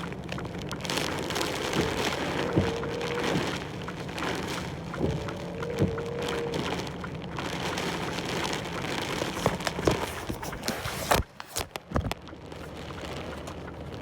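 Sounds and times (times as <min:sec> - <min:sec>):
rain hitting truck cab: 0:00.0 - 0:14.0
wind: 0:00.0 - 0:14.0.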